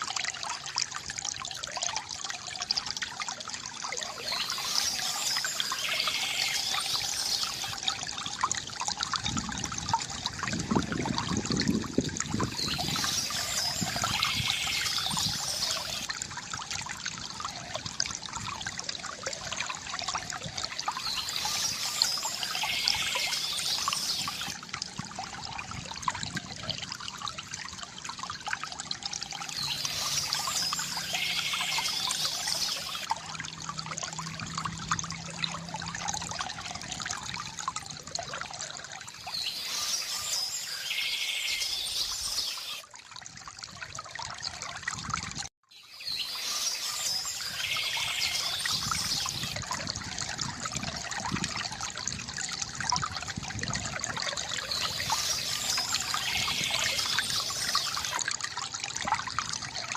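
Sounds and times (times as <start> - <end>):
fountain water trickling and splashing: 0.0 - 59.9.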